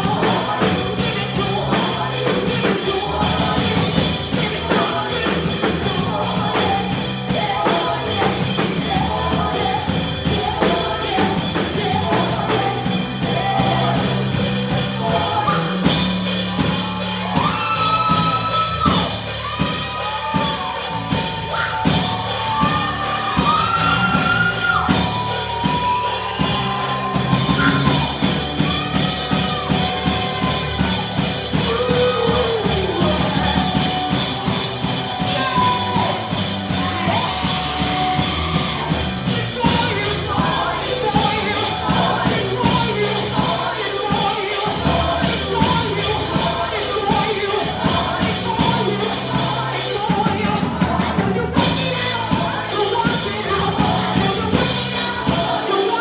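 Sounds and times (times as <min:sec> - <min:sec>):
drum kit beat: 0:00.0 - 0:56.0
gospel worship music: 0:00.0 - 0:56.0
long held singing: 0:00.0 - 0:56.0.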